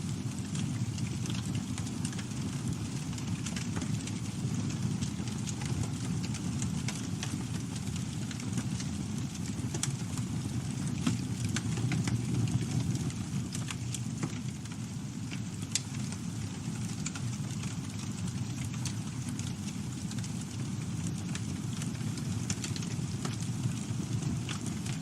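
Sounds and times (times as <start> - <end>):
low rumble of flames: 0.0 - 25.0
wood crackling and popping: 0.0 - 25.0.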